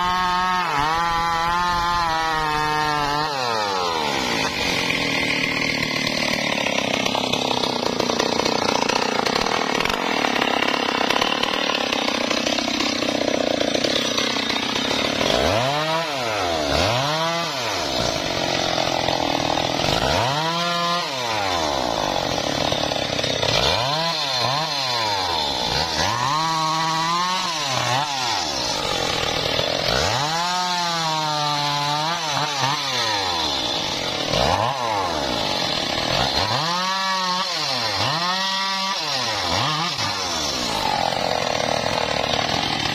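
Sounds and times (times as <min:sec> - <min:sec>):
chainsaw revving: 0:00.0 - 0:42.9.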